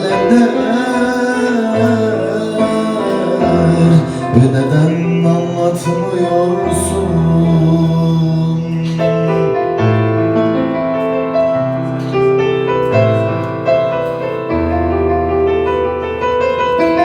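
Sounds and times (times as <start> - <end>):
keyboard playing slow melody: 0.0 - 17.0.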